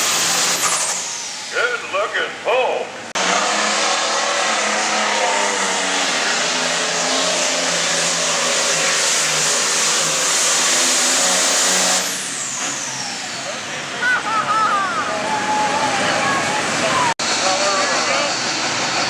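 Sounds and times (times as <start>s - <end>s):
tractor diesel engine roaring: 0.0s - 19.0s.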